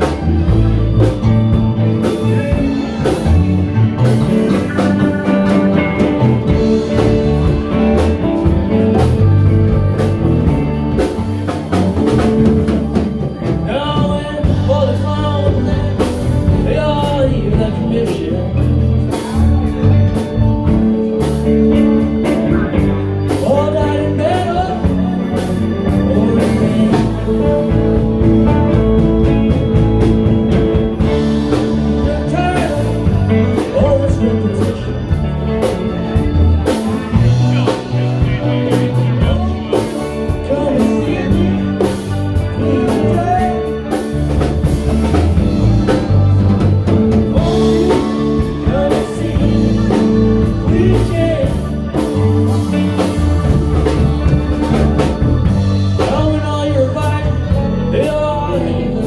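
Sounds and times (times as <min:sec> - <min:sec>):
drum kit beat: 0:00.0 - 0:58.7
live band playing blues: 0:00.0 - 0:59.0.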